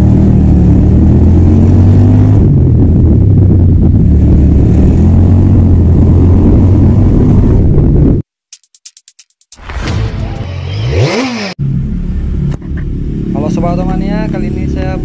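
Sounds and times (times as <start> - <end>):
motorcycle engine running: 0.0 - 8.2, 10.2 - 15.0.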